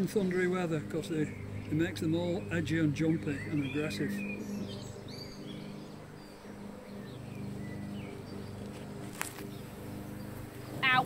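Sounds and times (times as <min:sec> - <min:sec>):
birds chirping: 0:00.0 - 0:11.0
honeybees buzzing: 0:00.0 - 0:11.0.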